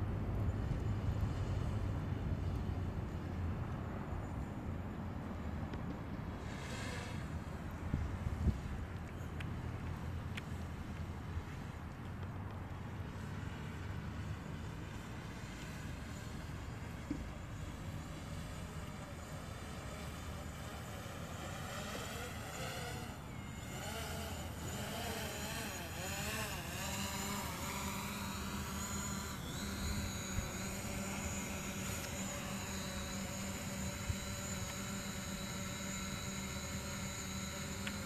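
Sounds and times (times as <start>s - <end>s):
drone propellers whirring: 0.2s - 38.0s.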